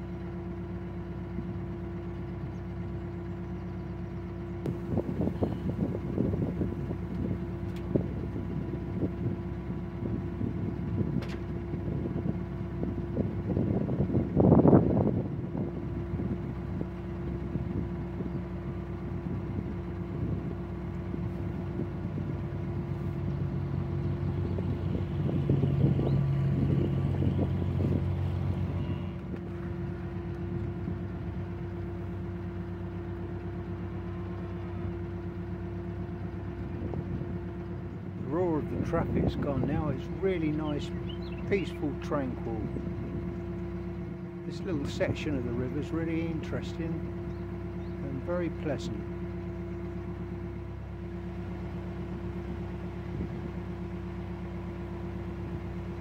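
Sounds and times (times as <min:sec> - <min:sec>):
boat engine running: 0:00.0 - 0:56.0
passing boat engine: 0:00.0 - 0:56.0.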